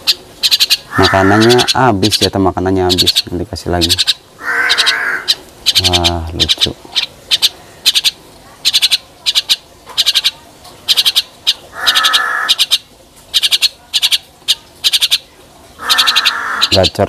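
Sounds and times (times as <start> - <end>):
harsh raspy bird call: 0.0 - 2.3, 2.9 - 17.0
mynas clicking chatter: 0.1 - 2.3, 2.9 - 17.0.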